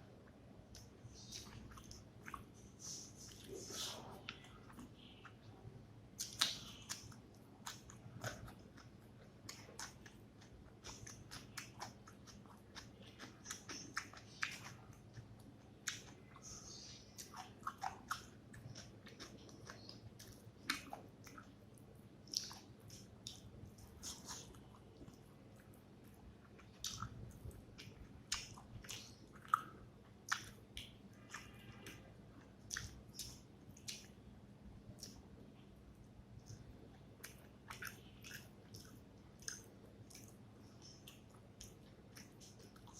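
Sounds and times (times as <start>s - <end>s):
wet chewing mouth sounds: 0.3s - 5.4s, 6.2s - 32.0s, 32.7s - 34.2s, 34.9s - 35.3s, 36.4s - 42.9s.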